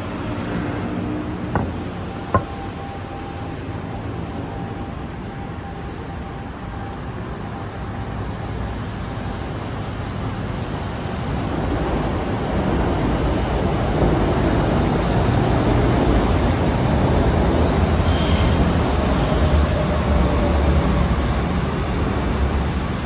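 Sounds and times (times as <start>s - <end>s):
cars passing on city street: 0.0s - 23.0s.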